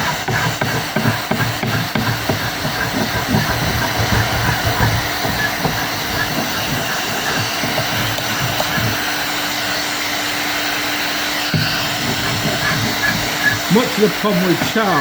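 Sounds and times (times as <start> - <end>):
scraping varnish off wood: 0.0 - 9.8, 10.7 - 15.0.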